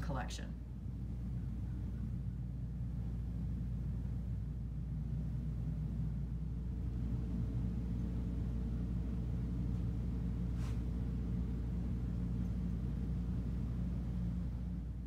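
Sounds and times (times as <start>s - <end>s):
low indoor hum and rumble: 0.0s - 15.0s.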